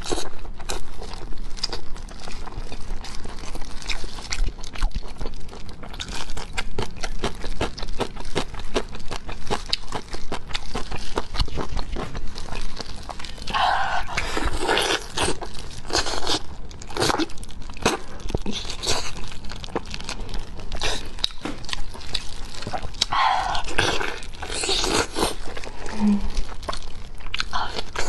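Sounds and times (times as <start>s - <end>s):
chewing and lip-smacking: 0.0s - 28.0s.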